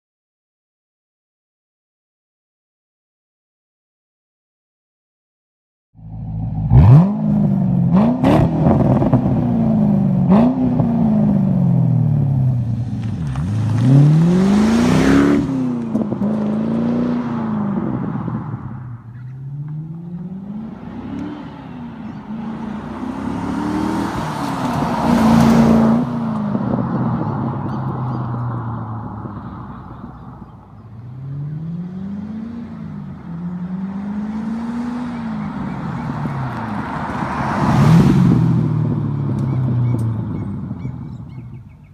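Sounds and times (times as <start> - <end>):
car engine starting and revving: 6.1 - 41.9.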